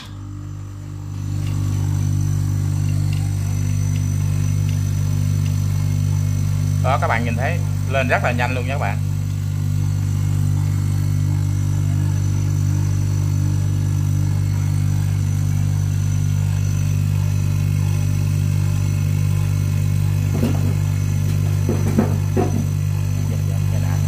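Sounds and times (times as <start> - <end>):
compressor air pump humming: 0.0 - 24.0.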